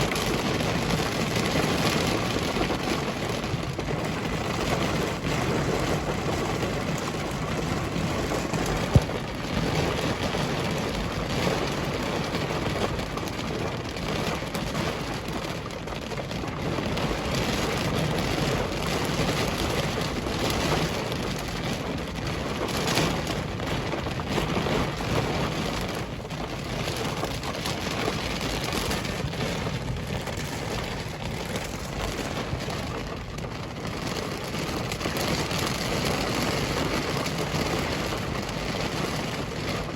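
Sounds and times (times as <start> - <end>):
heavy rain pelting a car: 0.0 - 39.9.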